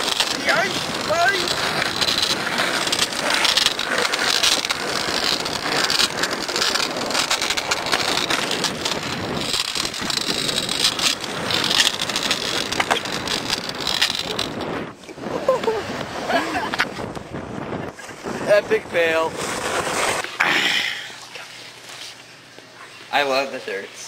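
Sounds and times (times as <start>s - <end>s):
skateboard wheels rolling on asphalt: 0.0s - 22.3s.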